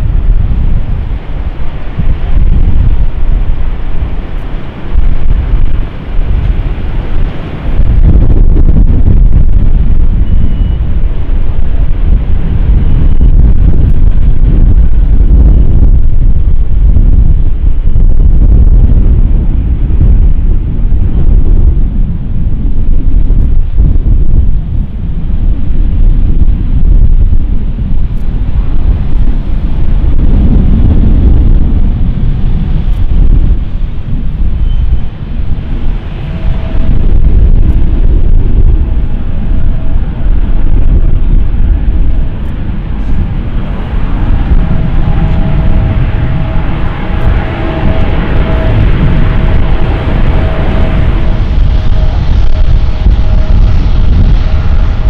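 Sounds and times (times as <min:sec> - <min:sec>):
jet engines whine: 0:00.0 - 0:55.0
storm wind buffeting microphone: 0:00.0 - 0:55.0.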